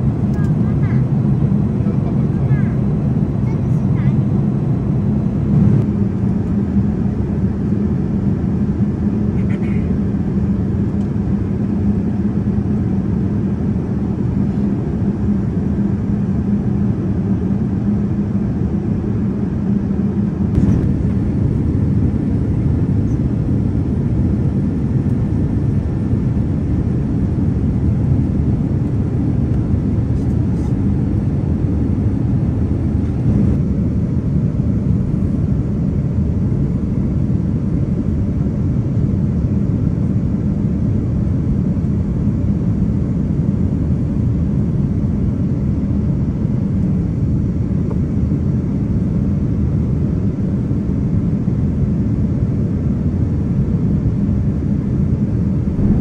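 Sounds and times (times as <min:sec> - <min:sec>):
airplane cabin engine roar: 0:00.0 - 0:56.0.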